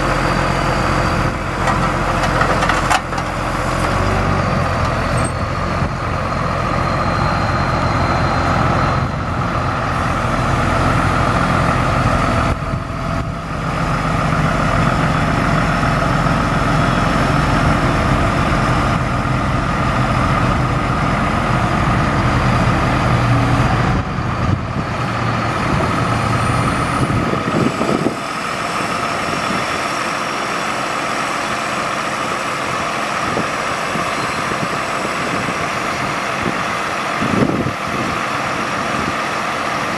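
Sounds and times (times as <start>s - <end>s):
truck engine drone: 0.0s - 39.9s.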